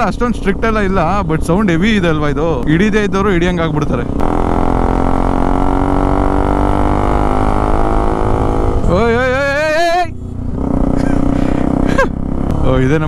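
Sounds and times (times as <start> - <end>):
motorcycle engine buzzing drone: 0.0 - 13.0.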